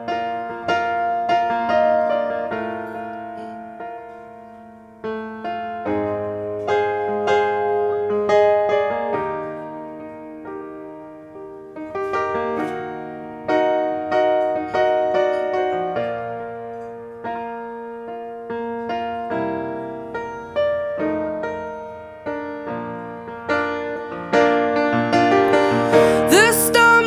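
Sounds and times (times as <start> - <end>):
slow solo piano chords: 0.0 - 27.0.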